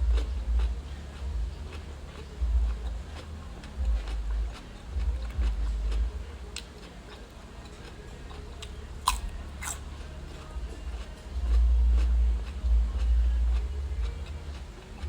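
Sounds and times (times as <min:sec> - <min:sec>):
person chewing noodles: 0:00.0 - 0:15.0.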